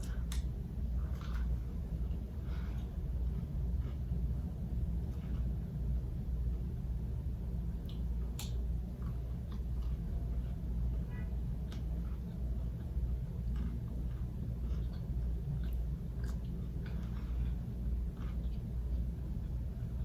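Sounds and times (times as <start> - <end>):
chewing and mouth clicks: 0.0 - 5.8, 7.6 - 11.0, 11.6 - 20.0.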